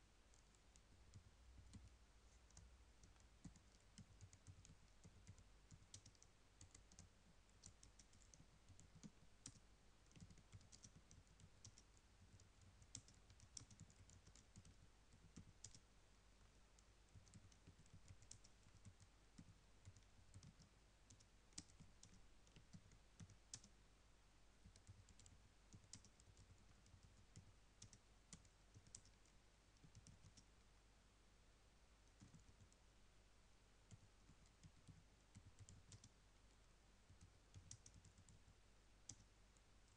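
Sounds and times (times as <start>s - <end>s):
typing on computer keyboard: 0.3s - 15.8s, 17.1s - 23.7s, 24.6s - 30.4s, 32.2s - 32.8s, 33.9s - 36.1s, 37.1s - 38.5s.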